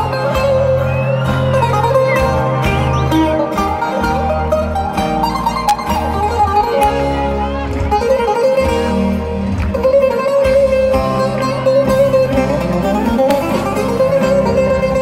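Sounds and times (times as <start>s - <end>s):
live band with plucked strings: 0.0s - 15.0s.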